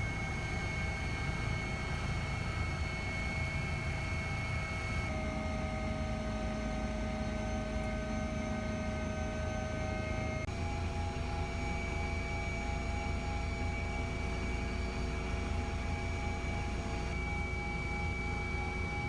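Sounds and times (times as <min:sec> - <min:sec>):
aircraft engine drone: 0:00.0 - 0:19.0.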